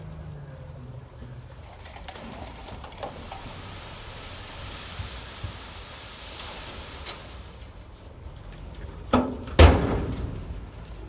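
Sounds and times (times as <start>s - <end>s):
distant diesel engine rumbling: 0.0s - 11.0s.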